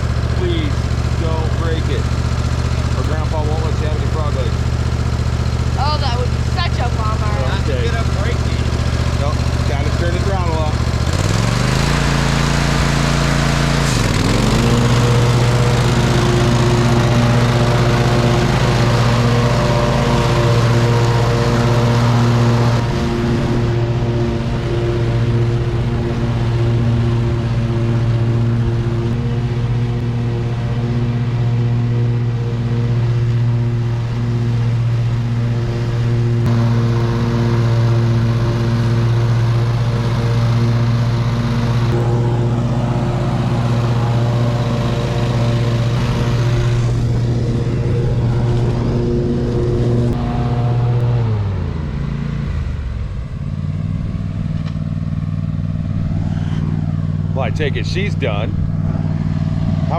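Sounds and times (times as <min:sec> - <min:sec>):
riding lawn mower engine: 0:00.0 - 0:59.9.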